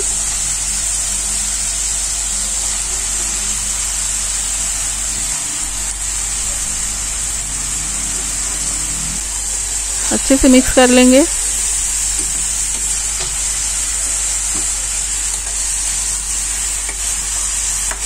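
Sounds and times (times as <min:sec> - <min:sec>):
onion paste sizzling in oil: 0:00.0 - 0:18.0.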